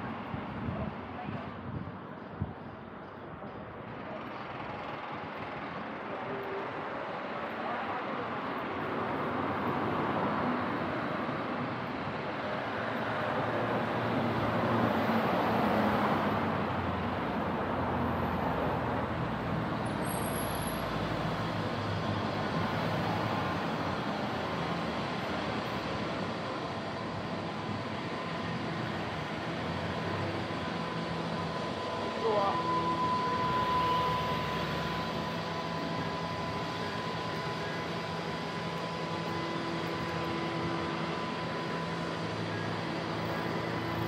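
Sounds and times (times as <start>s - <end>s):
road traffic driving past: 4.6s - 44.0s.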